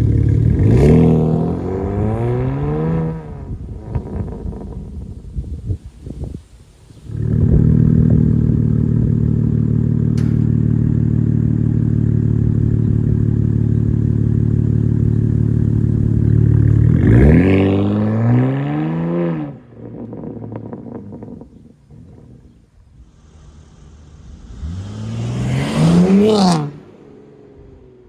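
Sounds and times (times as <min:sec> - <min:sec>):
car exhaust revving: 0:00.0 - 0:05.4, 0:07.0 - 0:28.0.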